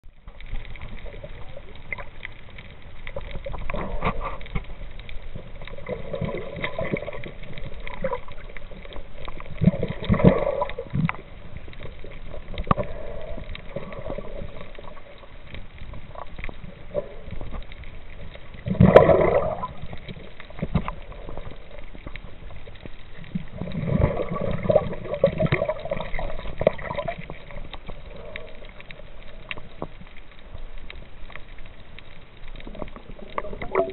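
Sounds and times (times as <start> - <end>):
underwater water noise: 0.0 - 33.9.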